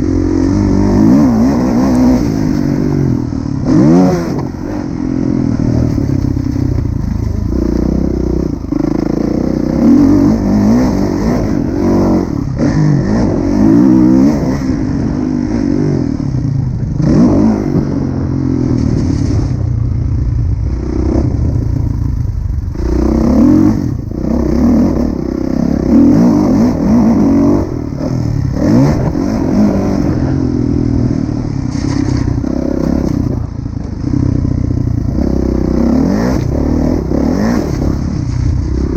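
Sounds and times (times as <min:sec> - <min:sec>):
motocross engine revving: 0:00.0 - 0:19.6, 0:20.7 - 0:38.9.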